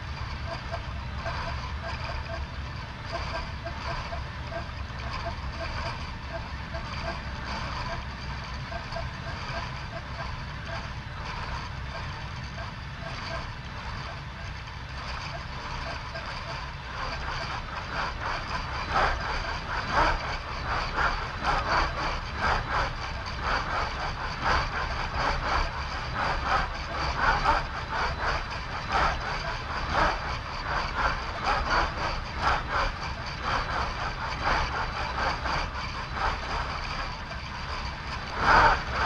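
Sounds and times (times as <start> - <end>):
actuator pulses: 0.0 - 39.0
machinery low hum: 0.0 - 39.0.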